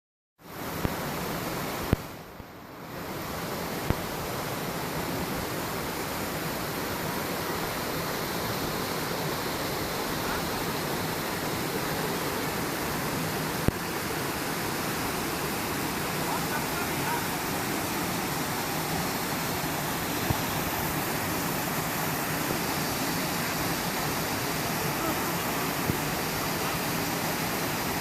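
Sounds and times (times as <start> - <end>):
waterfall roaring: 2.9 - 28.0.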